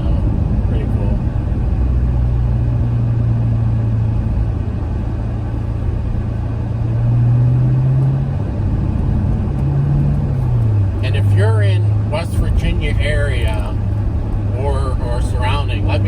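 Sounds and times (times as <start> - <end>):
car engine droning: 0.0 - 16.0
road noise: 0.0 - 16.0.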